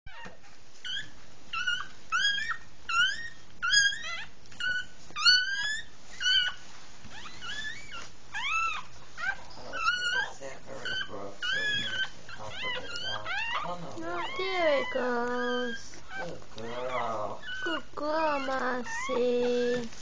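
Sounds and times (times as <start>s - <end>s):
dog whining: 0.1s - 20.0s.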